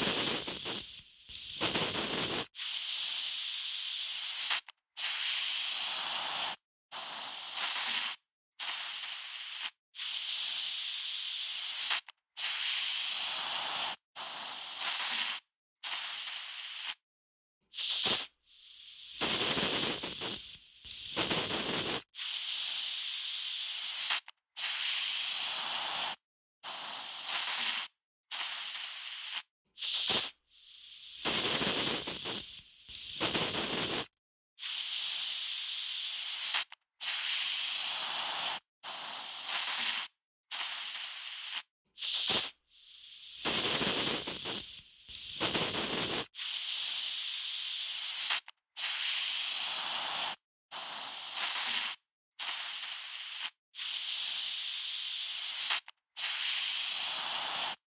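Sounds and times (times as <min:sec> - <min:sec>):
aerosol spray can hissing: 0:00.0 - 0:17.0, 0:17.7 - 0:57.8.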